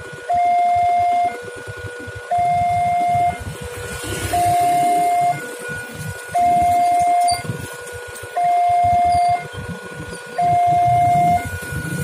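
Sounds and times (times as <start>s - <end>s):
vehicle engines rumbling: 0.0s - 12.0s
level crossing two-tone alarm: 0.1s - 12.0s.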